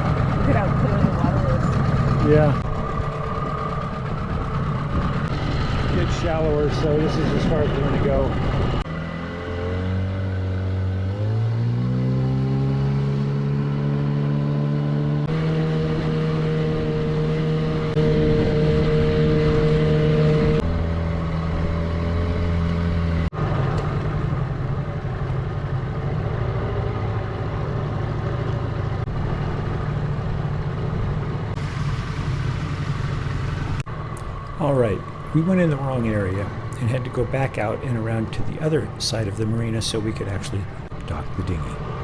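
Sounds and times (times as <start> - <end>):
outboard motor running: 0.0 - 11.8, 13.0 - 42.0.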